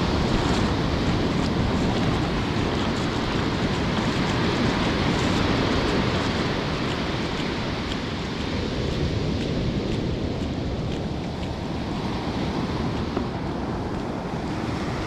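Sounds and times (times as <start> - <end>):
waves breaking on sand: 0.0 - 15.0
wind rumble on microphone: 0.0 - 15.0.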